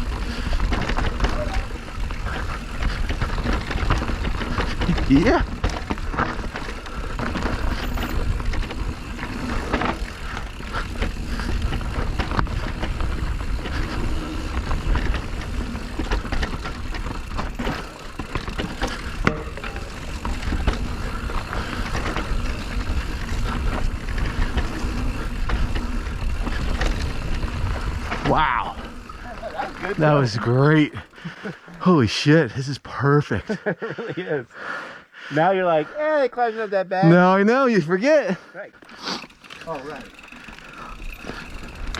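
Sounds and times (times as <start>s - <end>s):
bike rattling over bumps: 0.0s - 31.6s, 38.7s - 41.9s
bike tyres rolling on dirt: 0.0s - 32.3s, 37.2s - 41.9s.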